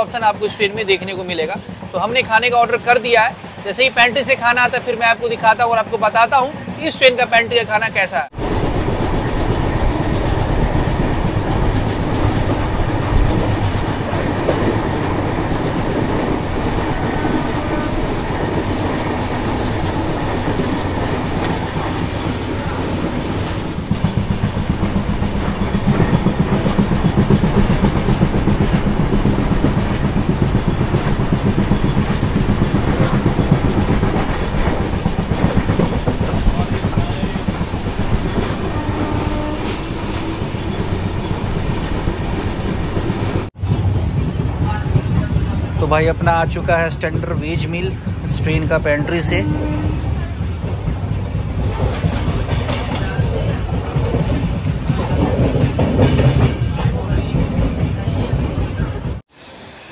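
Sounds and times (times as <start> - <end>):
train wheels clickety-clack: 0.0 - 7.6, 8.3 - 59.3.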